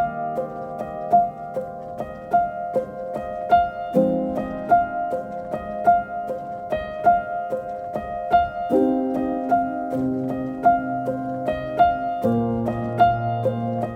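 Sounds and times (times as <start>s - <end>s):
piano-like keyboard music: 0.0s - 13.9s.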